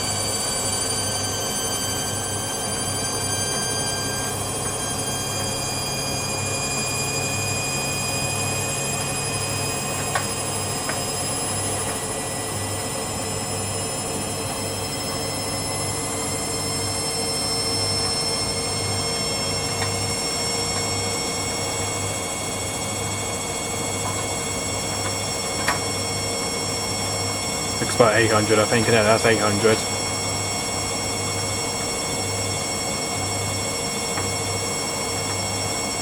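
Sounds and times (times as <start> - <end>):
washing machine drum spinning: 0.0 - 28.1, 29.8 - 36.0
high whining tones: 0.0 - 36.0.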